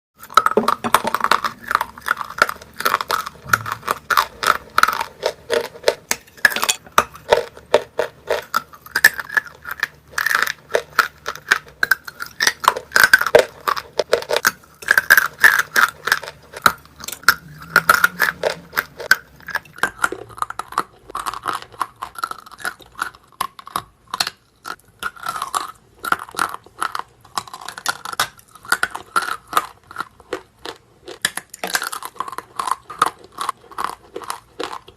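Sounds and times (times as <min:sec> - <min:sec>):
crunchy chewing: 0:00.2 - 0:34.9.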